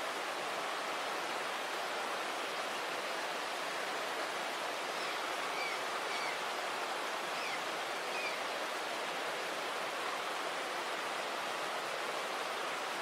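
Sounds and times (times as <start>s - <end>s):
fast-flowing river rushing: 0.0s - 13.0s.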